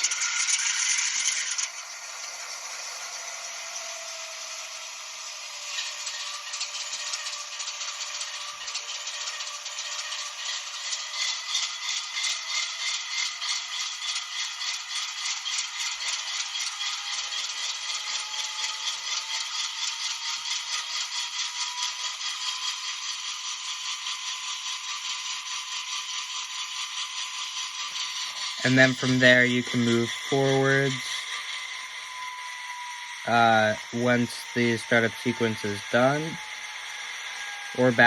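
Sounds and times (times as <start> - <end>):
tinny model locomotive engine sound: 0.0 - 38.0.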